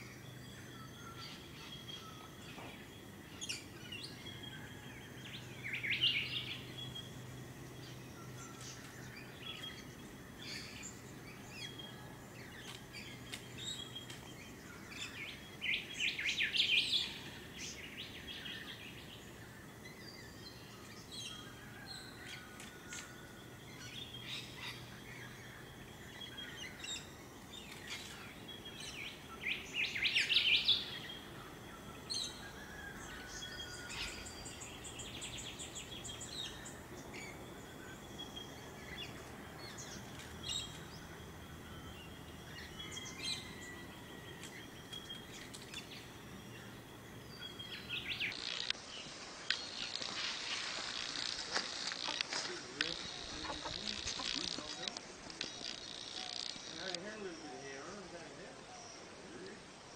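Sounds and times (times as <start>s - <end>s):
wild birds calling and chirping: 0.0s - 59.9s.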